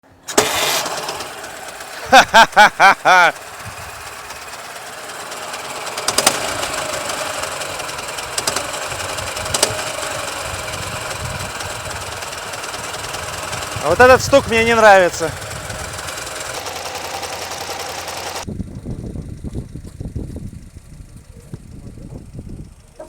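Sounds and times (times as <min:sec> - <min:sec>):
engine knocking: 0:00.3 - 0:23.0
motorcycle engine running: 0:00.4 - 0:23.0.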